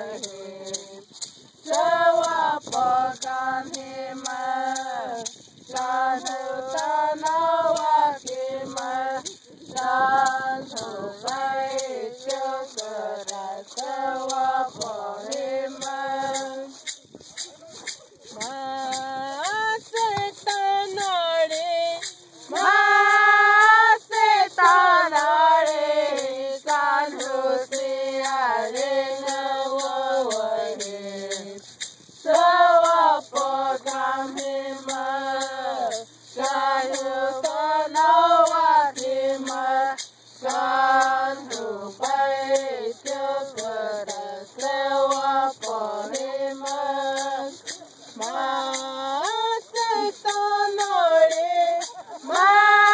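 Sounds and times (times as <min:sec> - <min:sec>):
high voice singing unaccompanied: 0:00.0 - 0:16.9, 0:18.3 - 0:52.9.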